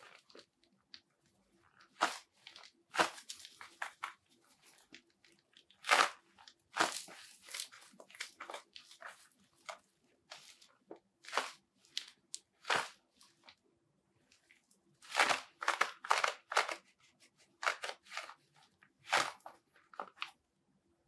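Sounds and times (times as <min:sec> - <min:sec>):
gloves scrunching: 0:00.0 - 0:13.6, 0:14.3 - 0:20.4.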